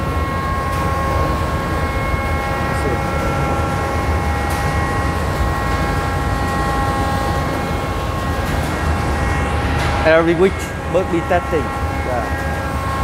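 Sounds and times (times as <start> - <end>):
machinery whining tones: 0.0 - 13.0.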